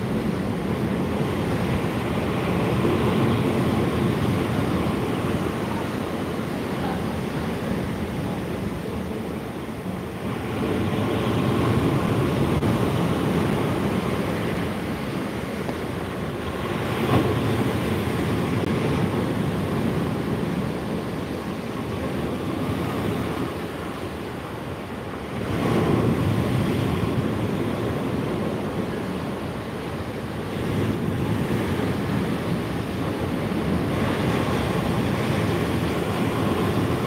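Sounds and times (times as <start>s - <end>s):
surf breaking on a beach: 0.0s - 37.0s
wind buffeting microphone: 0.0s - 37.0s.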